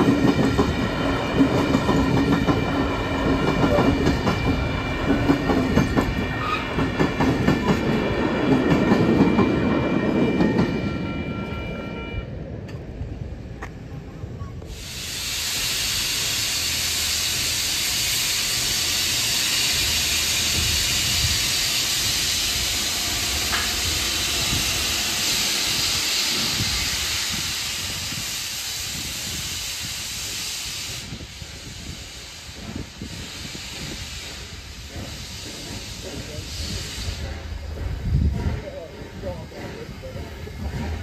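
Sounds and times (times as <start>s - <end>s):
steam locomotive venting steam: 0.0s - 10.7s, 14.6s - 41.0s.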